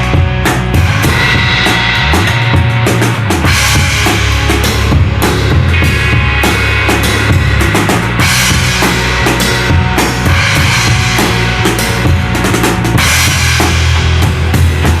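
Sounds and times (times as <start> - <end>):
box drum groove: 0.0 - 15.0
music with bass line: 0.0 - 15.0.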